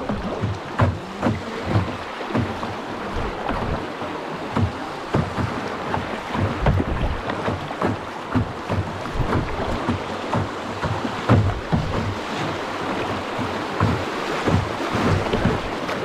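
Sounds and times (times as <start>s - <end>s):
water splashing against boat: 0.0s - 16.0s.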